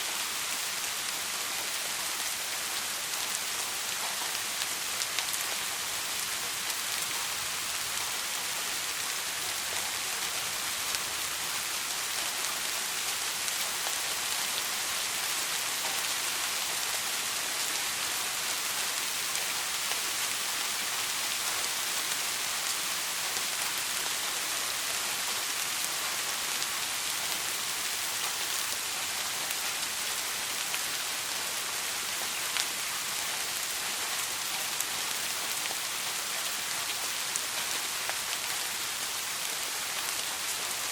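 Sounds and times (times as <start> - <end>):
rain pattering: 0.1 - 40.9.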